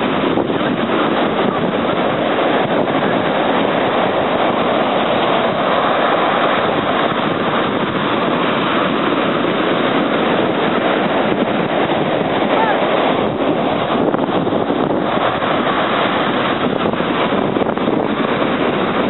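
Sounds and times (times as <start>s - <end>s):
waves breaking in surf: 0.0s - 19.0s.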